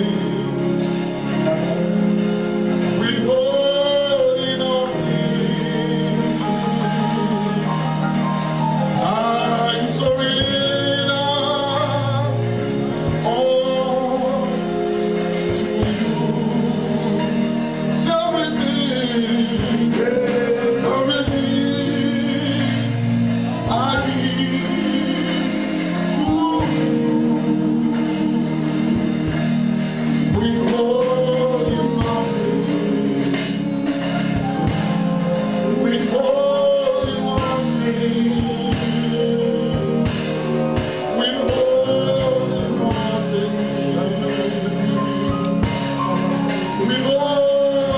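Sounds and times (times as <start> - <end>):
man singing into a microphone: 0.0 - 1.9, 2.5 - 47.9
drum hits: 0.0 - 47.9
held organ chords: 0.0 - 47.9
instrumental backing music: 0.0 - 47.9.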